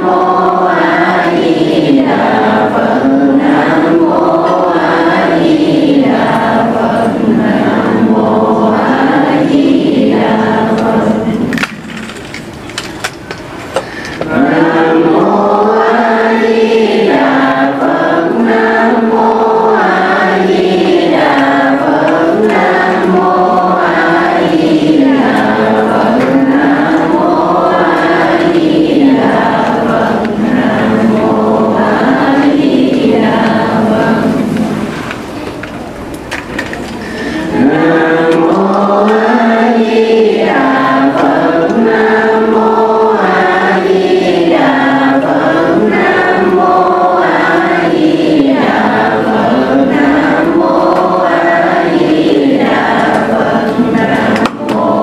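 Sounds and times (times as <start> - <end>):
many voices chanting in unison: 0.0 - 13.0, 13.6 - 55.0.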